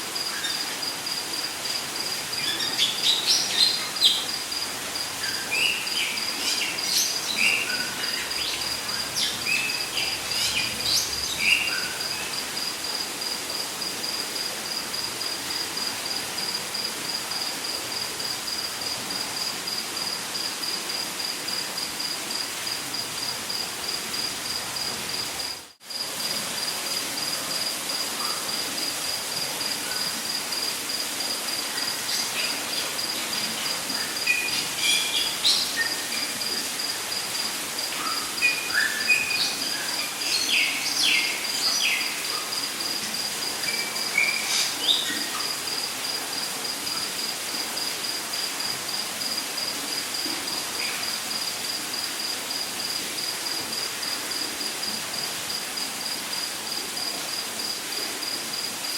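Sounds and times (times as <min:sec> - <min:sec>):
constant hiss: 0:00.0 - 0:58.9.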